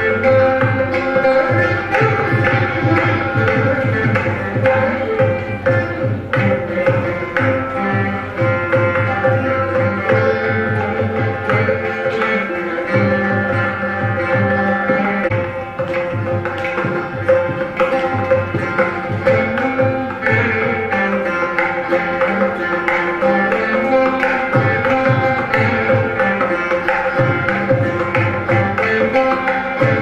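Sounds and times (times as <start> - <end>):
clay pot percussion: 0.0 - 30.0
hand drum strokes: 0.0 - 30.0
plucked string melody: 0.0 - 30.0.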